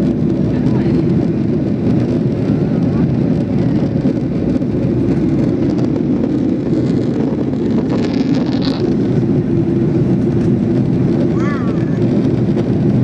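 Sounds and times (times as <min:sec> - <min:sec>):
air rushing over fuselage: 0:00.0 - 0:13.0
jet engines rumbling: 0:00.0 - 0:13.0.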